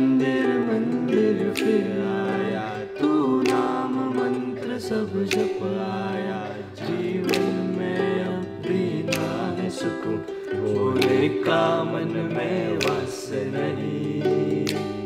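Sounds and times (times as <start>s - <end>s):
man singing: 0.0s - 15.0s
ukulele strumming: 0.0s - 15.0s.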